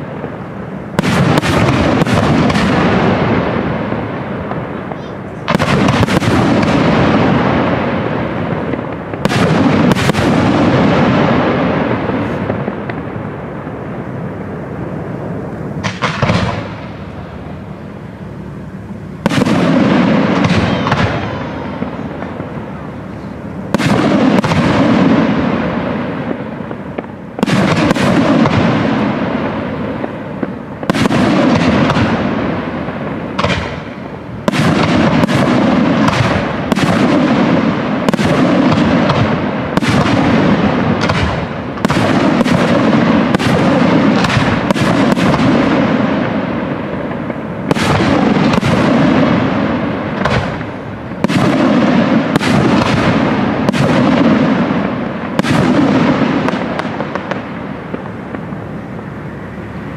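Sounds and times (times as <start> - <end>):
rumble after firework bang: 0.0 - 58.7
firework shells bursting: 0.0 - 59.0.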